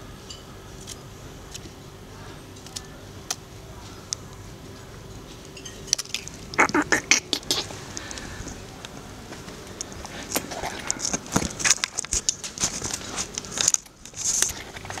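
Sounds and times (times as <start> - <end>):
clicks and crackling rustles: 2.5 - 15.0.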